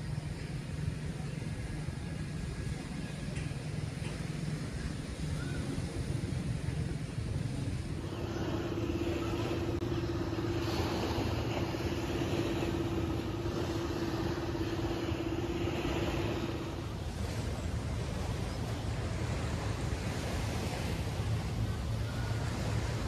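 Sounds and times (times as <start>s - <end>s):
constant rushing noise: 0.0s - 23.0s
engine droning: 0.0s - 23.0s.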